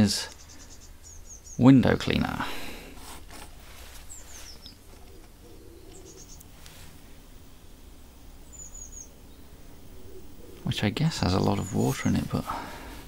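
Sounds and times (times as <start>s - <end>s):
faint bird chirps: 0.0s - 2.3s, 3.8s - 12.9s
low steady hum: 0.0s - 13.0s.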